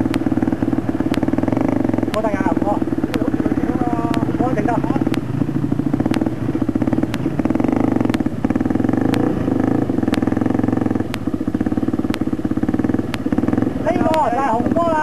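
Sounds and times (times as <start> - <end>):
dirt bike engine at low revs: 0.0 - 15.0.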